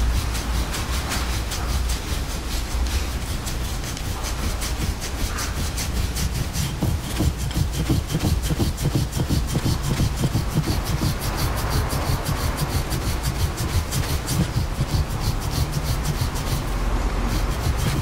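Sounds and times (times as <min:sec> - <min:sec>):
metal tool scraping oiled skin: 0:00.0 - 0:18.0.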